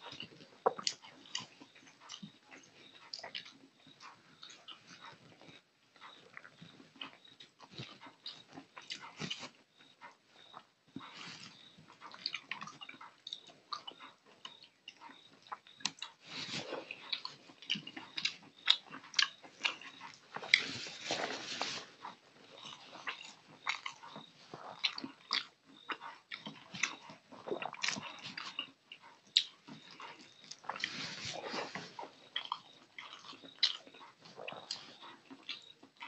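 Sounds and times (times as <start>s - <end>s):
wet smacking chewing: 0.0s - 36.0s.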